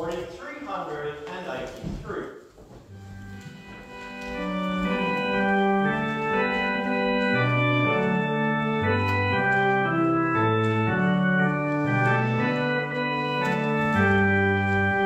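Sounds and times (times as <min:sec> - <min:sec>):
organ playing hymn: 0:02.8 - 0:15.0.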